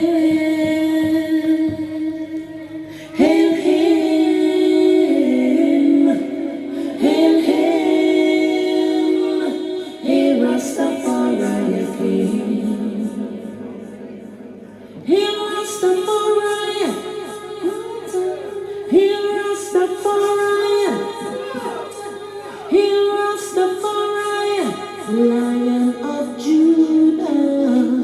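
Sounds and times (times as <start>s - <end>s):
reggae vocals over sound system: 3.1s - 13.7s, 15.0s - 28.0s.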